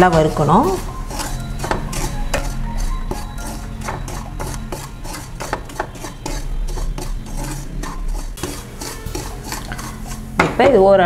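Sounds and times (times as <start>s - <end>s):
spoon stirring and scraping pan: 0.0s - 11.0s.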